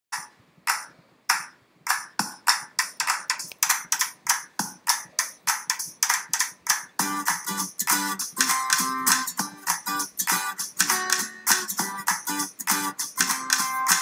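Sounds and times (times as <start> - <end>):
sharp percussive hits: 0.2 - 14.0.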